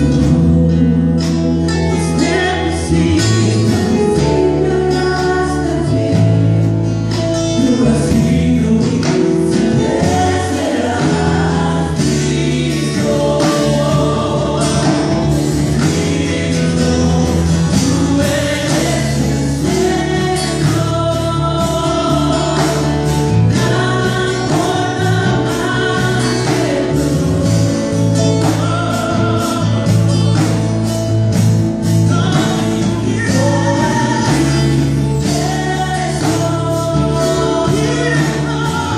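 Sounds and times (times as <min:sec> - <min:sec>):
band playing gospel song: 0:00.0 - 0:38.9
bass line: 0:00.0 - 0:38.9
voices singing together: 0:00.0 - 0:38.9.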